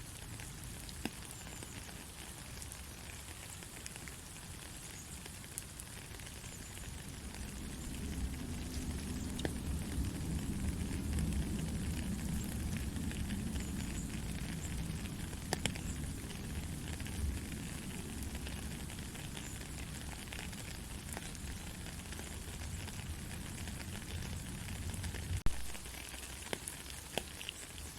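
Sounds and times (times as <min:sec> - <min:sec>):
soft rain patter: 0:00.0 - 0:27.9.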